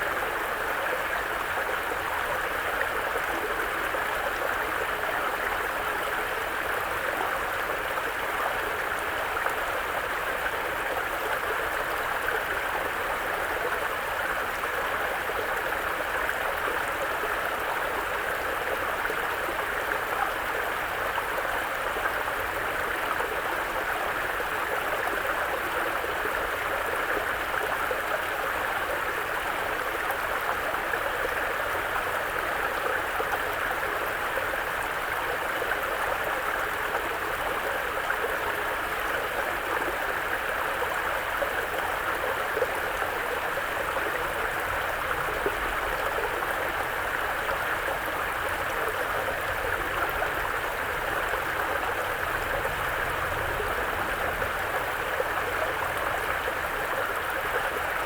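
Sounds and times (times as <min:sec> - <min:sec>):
brook flowing over rocks: 0:00.0 - 0:58.0.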